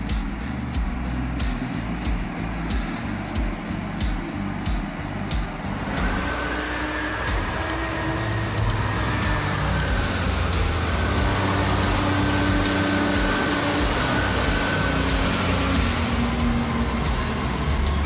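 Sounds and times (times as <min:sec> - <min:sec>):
thin high whine: 0:00.0 - 0:18.0
truck engine rumbling: 0:00.0 - 0:18.0.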